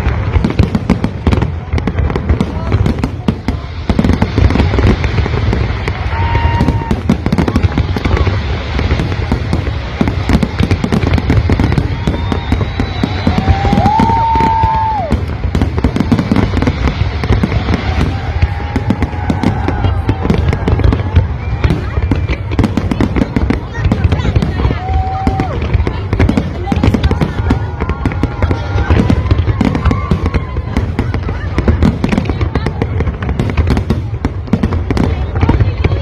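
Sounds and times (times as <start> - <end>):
fireworks bangs and crackling: 0.0 - 36.0
whistling fireworks: 0.0 - 36.0.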